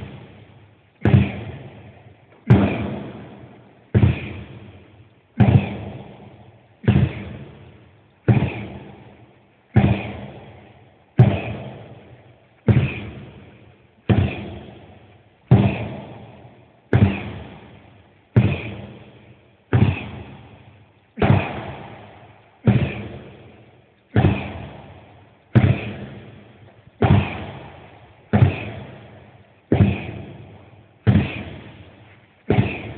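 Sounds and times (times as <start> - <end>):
sledgehammer thudding on tire: 1.0 - 1.8, 2.4 - 4.6, 5.4 - 7.6, 8.3 - 12.1, 12.7 - 13.5, 14.1 - 14.9, 15.5 - 19.0, 19.7 - 20.5, 21.2 - 32.9.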